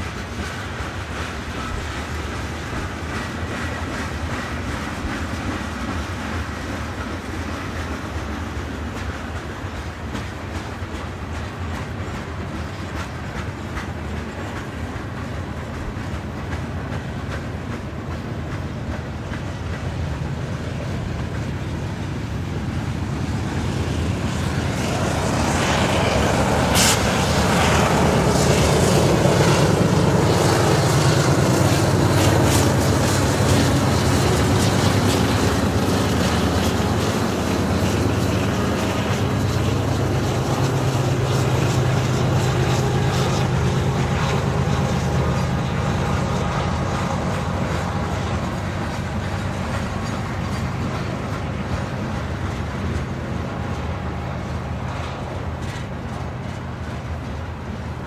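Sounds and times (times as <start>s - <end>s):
diesel locomotive: 0.0s - 58.0s
freight train wheels rumbling: 0.0s - 58.0s.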